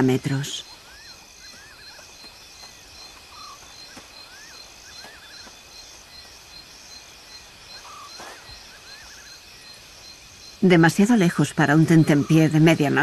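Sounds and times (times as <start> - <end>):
insects trilling: 0.0 - 13.0
short chirping calls: 0.0 - 13.0.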